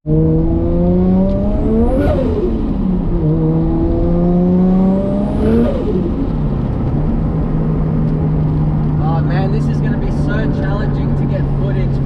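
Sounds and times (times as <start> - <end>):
car engine accelerating hard: 0.1 - 12.0.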